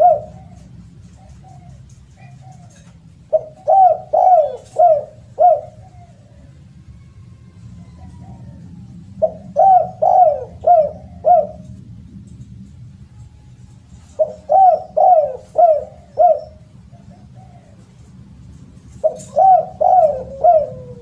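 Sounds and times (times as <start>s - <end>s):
dove cooing: 0.0s - 12.0s, 13.9s - 21.0s.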